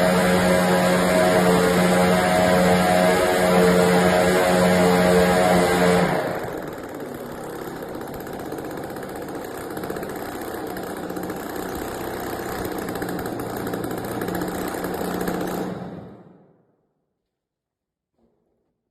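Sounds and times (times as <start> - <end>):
small engine running: 0.0 - 16.7.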